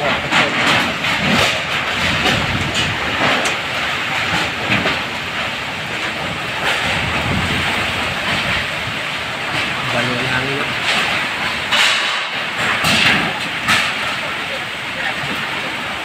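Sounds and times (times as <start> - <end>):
heavy rain: 0.0 - 16.0
strong wind: 0.0 - 16.0.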